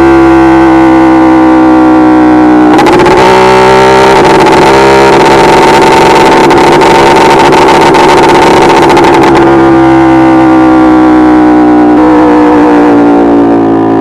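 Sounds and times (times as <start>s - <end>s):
moped engine revving: 0.0s - 14.0s.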